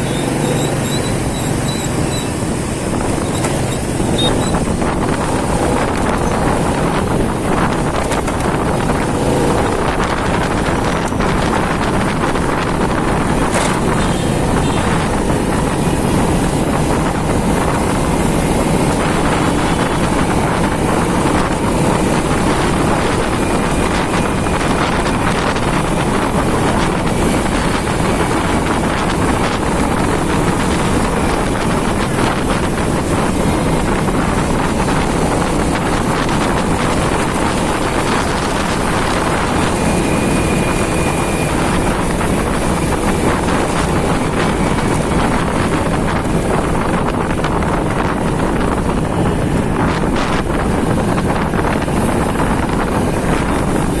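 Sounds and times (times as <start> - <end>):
motorcycle engine: 0.0 - 54.0
street traffic: 0.0 - 54.0
wind rushing over microphone: 0.0 - 54.0.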